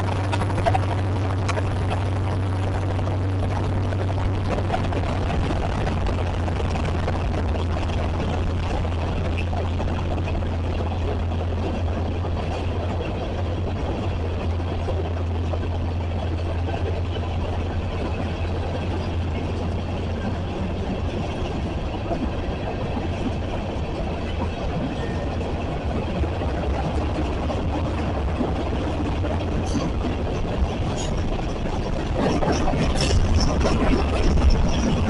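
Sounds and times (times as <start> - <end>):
constant low hum: 0.0 - 35.0
train rumbling past: 0.0 - 35.0.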